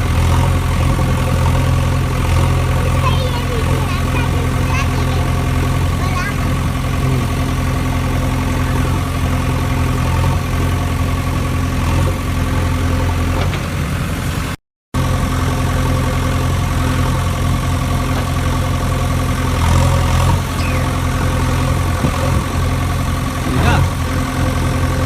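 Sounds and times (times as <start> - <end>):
engine idling hum: 0.0 - 25.0.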